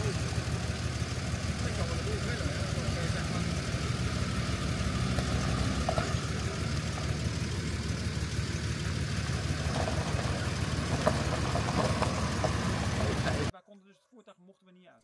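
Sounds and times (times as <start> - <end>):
gravel crackling under tyres: 0.0 - 13.5
van engine running: 0.0 - 13.5.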